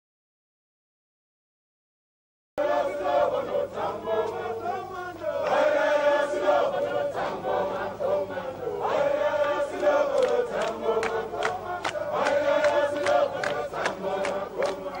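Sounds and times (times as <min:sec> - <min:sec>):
crowd singing and chanting: 0:02.6 - 0:15.0.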